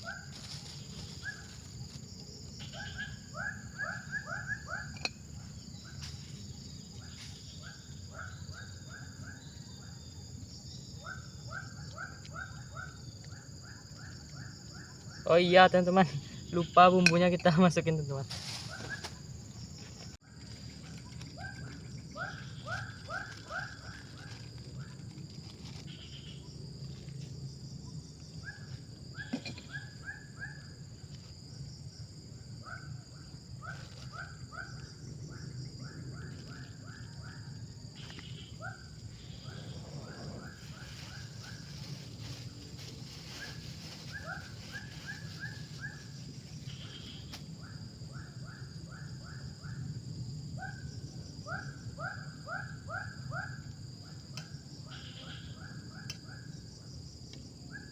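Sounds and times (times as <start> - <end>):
high-pitched insect drone: 0.0 - 32.0, 33.3 - 57.1
low constant rumble: 0.0 - 54.8.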